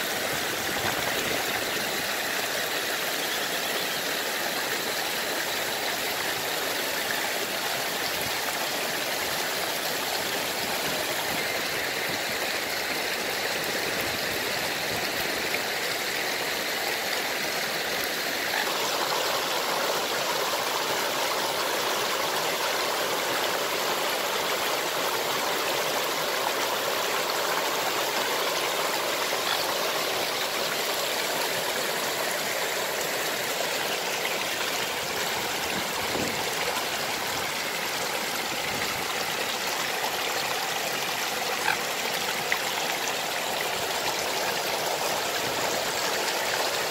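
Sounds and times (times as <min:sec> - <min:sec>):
water rushing over rocks: 0:00.0 - 0:46.9.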